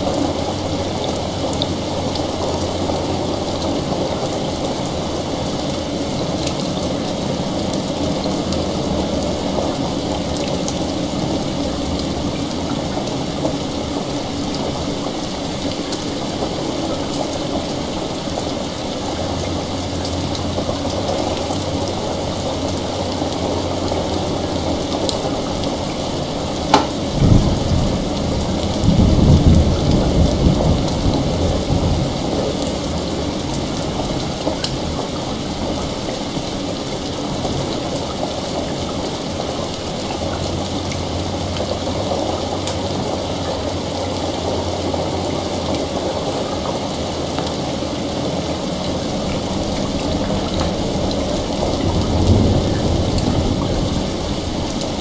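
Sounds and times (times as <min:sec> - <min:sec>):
thunder crack and rumble: 0:00.0 - 0:43.7, 0:48.6 - 0:55.0
heavy rain falling: 0:00.0 - 0:55.0.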